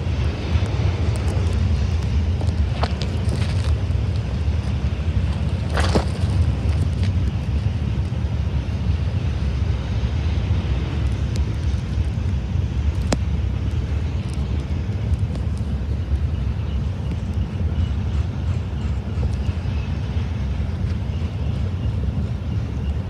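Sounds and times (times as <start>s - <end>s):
distant freight train rumble: 0.0s - 23.0s
wind on microphone: 0.0s - 23.0s.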